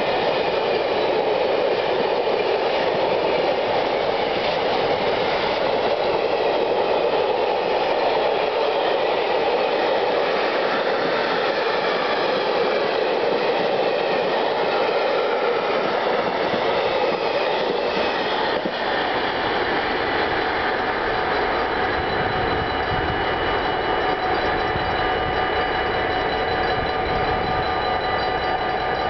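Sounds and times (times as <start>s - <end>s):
freight train rumbling and rattling: 0.0s - 29.0s
level-crossing bell ringing: 0.0s - 29.0s.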